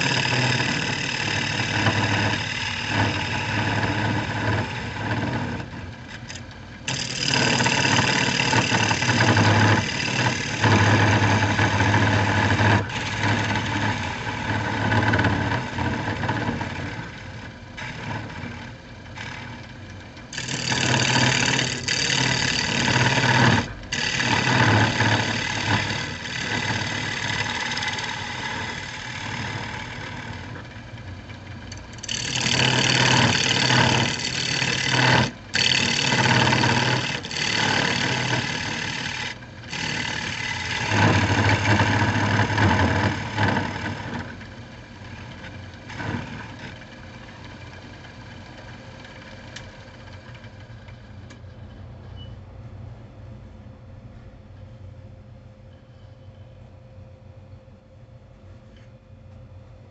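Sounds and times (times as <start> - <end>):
gouge cutting wood on lathe: 0.0 - 50.6
lathe motor humming: 0.0 - 51.4.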